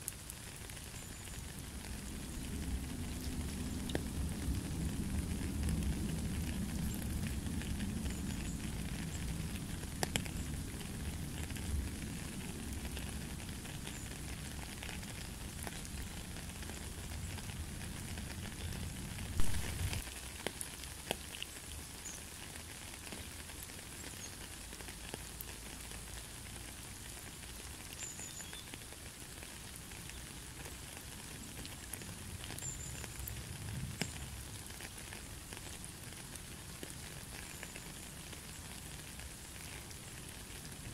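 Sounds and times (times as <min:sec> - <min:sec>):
rain hissing: 0:00.0 - 0:40.9.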